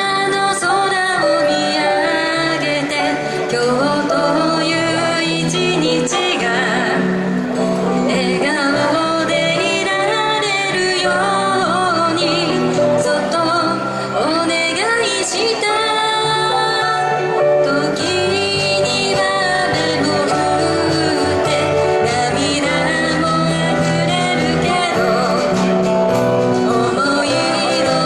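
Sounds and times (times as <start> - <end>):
instrumental accompaniment: 0.0 - 28.0
woman singing pop song: 0.0 - 28.0.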